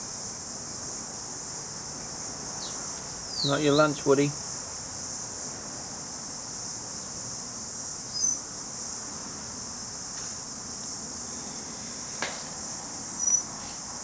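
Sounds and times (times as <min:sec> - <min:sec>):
cicadas droning: 0:00.0 - 0:14.0.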